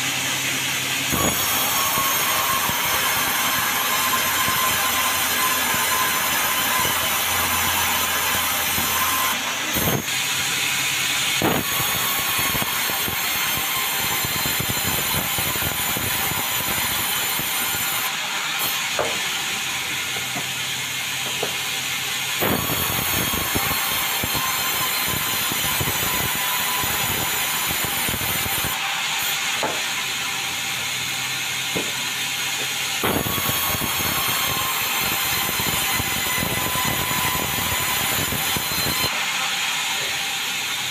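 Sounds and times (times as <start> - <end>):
sawmill cutting a log: 0.0 - 40.9.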